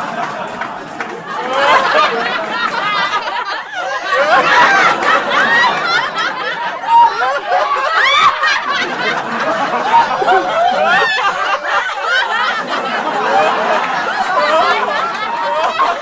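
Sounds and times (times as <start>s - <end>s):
crowd chattering and laughing: 0.0s - 16.0s.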